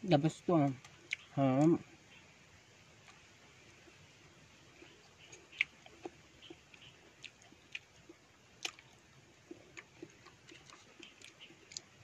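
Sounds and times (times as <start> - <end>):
person chewing fruit: 0.3 - 1.9, 3.0 - 4.1, 4.7 - 12.0.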